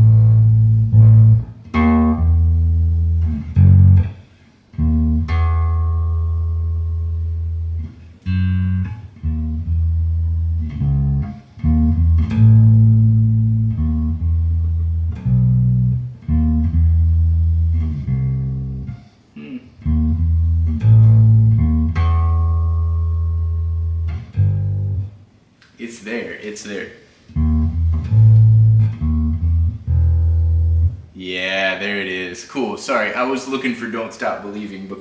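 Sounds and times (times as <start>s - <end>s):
electric bass guitar melody: 0.0s - 25.2s, 27.3s - 31.2s.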